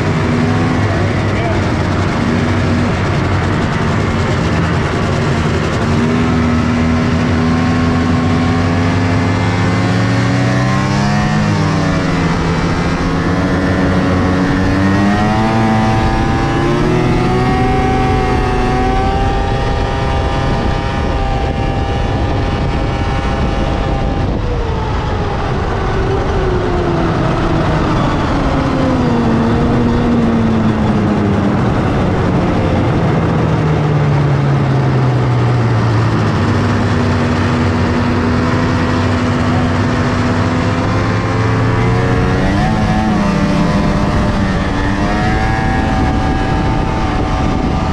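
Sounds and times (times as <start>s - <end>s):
snowmobile engine revving: 0.0s - 47.9s.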